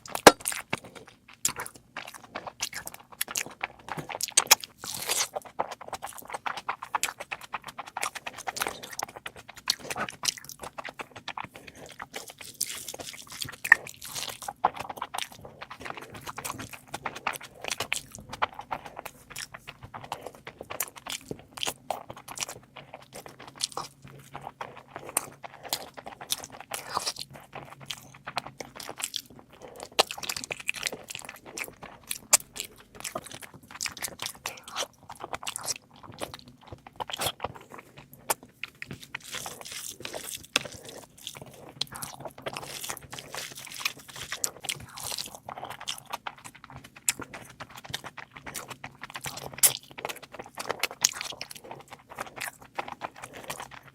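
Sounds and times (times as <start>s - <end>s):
biting and chewing with crunches: 0.0s - 53.9s.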